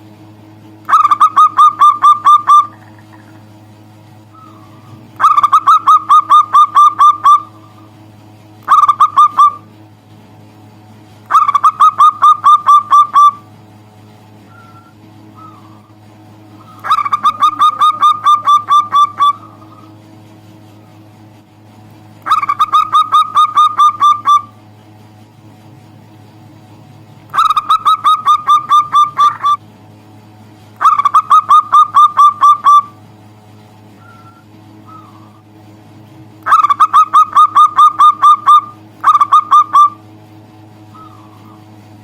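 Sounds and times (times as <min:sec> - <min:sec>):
dove calling: 0:00.8 - 0:09.8, 0:11.2 - 0:21.1, 0:22.0 - 0:25.1, 0:25.7 - 0:29.7, 0:30.7 - 0:35.7, 0:36.4 - 0:42.0.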